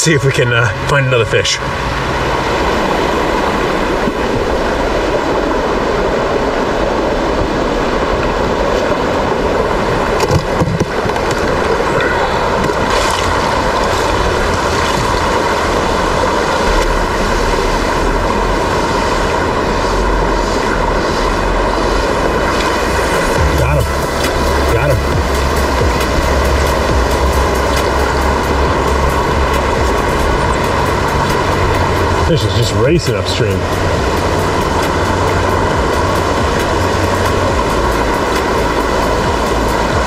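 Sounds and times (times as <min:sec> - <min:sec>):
stream water rushing over rocks: 0:00.0 - 0:40.0.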